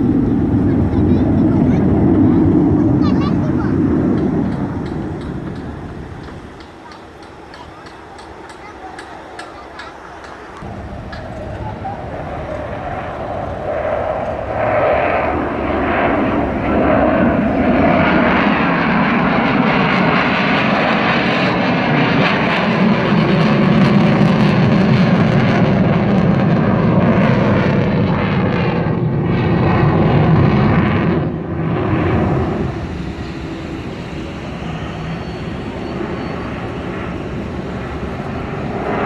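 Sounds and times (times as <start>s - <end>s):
fighter jet engine roar: 0.0s - 39.0s.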